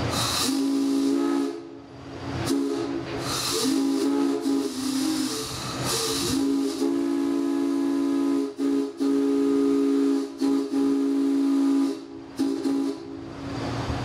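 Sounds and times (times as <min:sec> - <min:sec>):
steam whistle blasts: 0:00.0 - 0:01.8, 0:02.4 - 0:13.2
steam hissing: 0:00.0 - 0:14.0.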